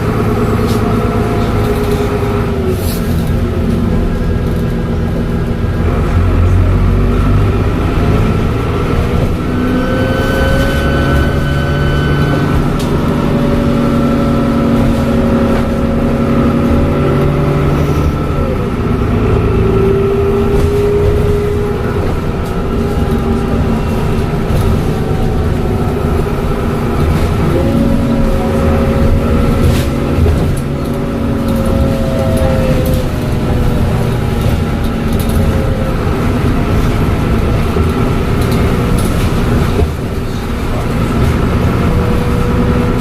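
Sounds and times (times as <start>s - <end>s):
bus diesel engine rumble: 0.0s - 43.0s.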